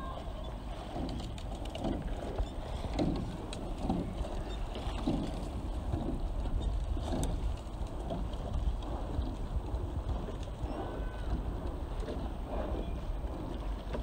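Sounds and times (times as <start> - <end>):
low wind rumble on microphone: 0.0 - 14.0.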